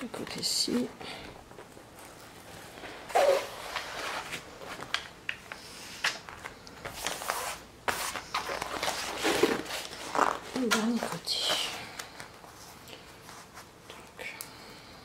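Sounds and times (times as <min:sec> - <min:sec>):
canvas and plastic film crackling: 0:00.0 - 0:13.8.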